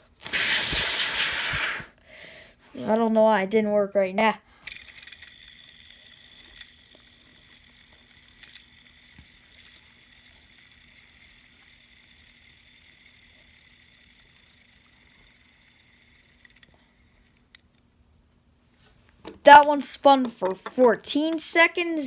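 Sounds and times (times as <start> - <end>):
fidget spinner whirring: 0.0 - 2.0, 4.6 - 17.8, 19.2 - 22.0.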